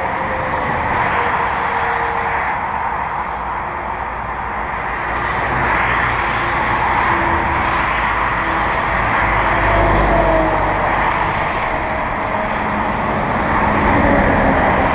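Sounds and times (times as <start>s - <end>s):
motor vehicle engine and road noise: 0.0s - 14.9s.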